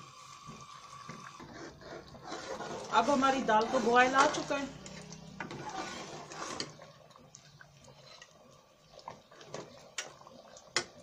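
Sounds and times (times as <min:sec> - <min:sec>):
thick lentils bubbling in a pot: 0:00.0 - 0:11.0.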